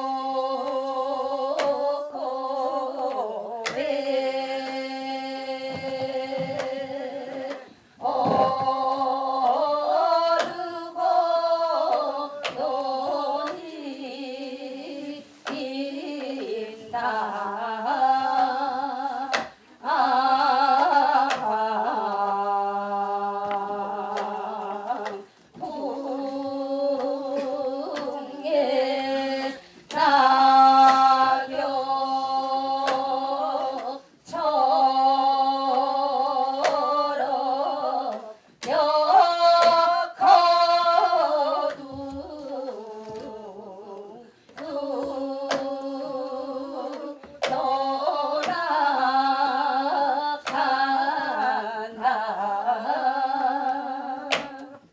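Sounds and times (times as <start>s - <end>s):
woman singing folk song: 0.0s - 54.9s.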